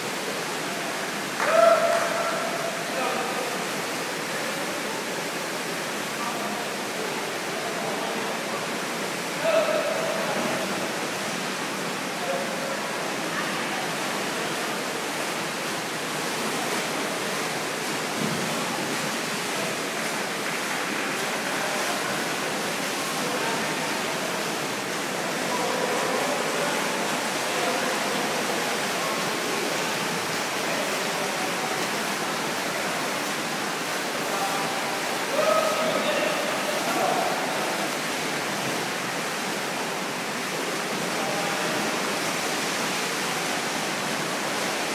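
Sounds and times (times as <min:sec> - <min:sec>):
swimmers splashing in pool: 0:00.0 - 0:44.9.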